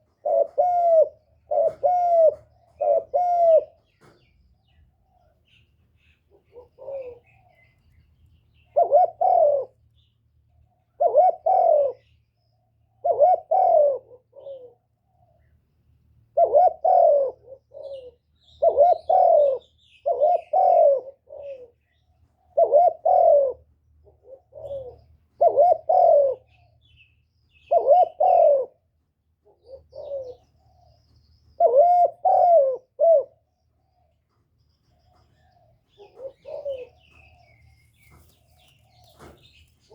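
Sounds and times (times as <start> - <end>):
dove cooing: 0.0 - 9.9, 10.5 - 12.2, 12.8 - 15.6, 16.2 - 39.9.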